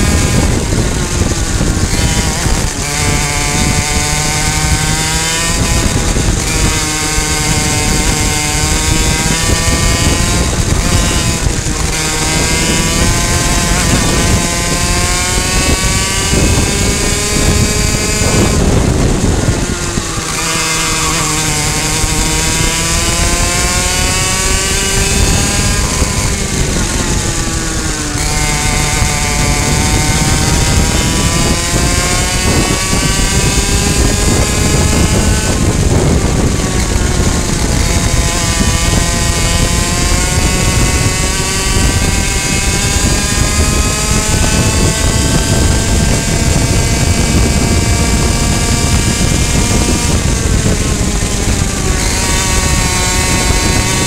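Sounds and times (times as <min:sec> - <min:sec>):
other kart engines: 0:00.0 - 0:54.0
two-stroke kart engine revving: 0:00.0 - 0:54.0.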